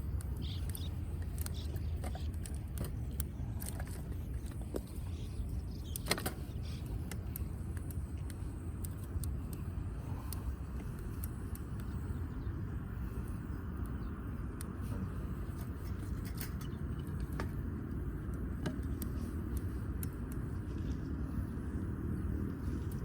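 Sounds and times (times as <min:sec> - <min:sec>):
firewood burning and crackling: 0:00.0 - 0:23.0.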